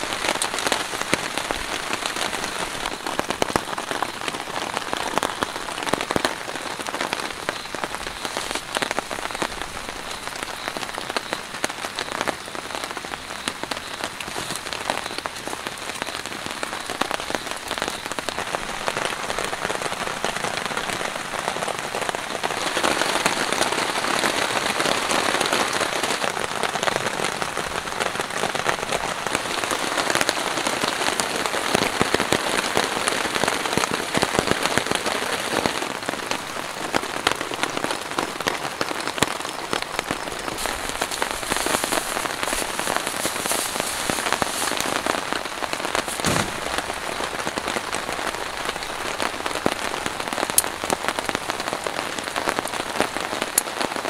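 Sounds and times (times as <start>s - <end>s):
rain pattering on a tarp: 0.0s - 54.0s.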